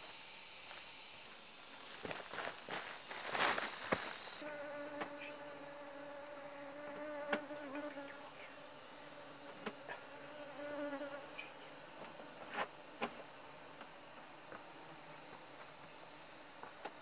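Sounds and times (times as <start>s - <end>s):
flying insect buzzing: 0.0s - 16.7s.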